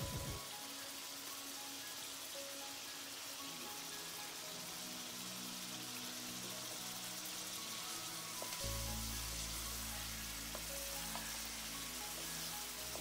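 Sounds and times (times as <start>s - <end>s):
background music: 0.0s - 13.0s
chicken sizzling in a wok: 0.0s - 13.0s.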